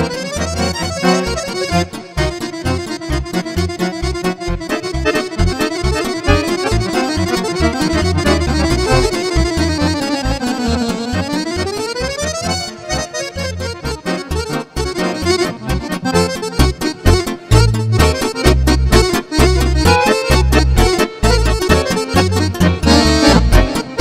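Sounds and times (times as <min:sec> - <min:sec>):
button accordion folk tune: 0:00.0 - 0:24.0.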